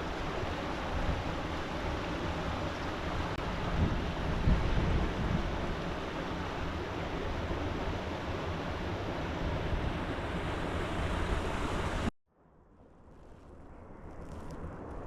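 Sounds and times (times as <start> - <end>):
river water rushing: 0.0 - 12.1.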